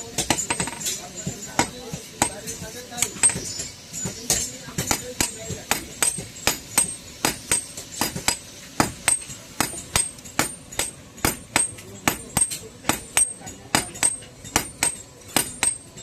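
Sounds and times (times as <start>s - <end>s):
hammer striking iron on anvil: 0.0s - 16.0s.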